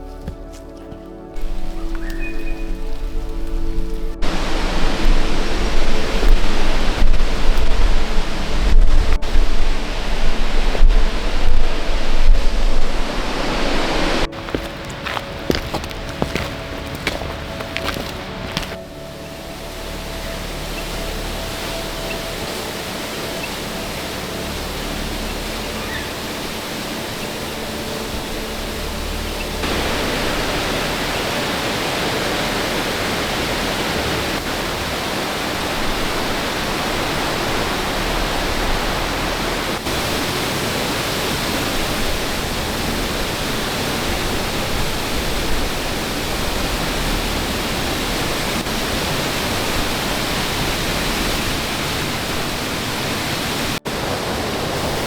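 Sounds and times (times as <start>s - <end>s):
flowing water roar: 0.0s - 55.0s.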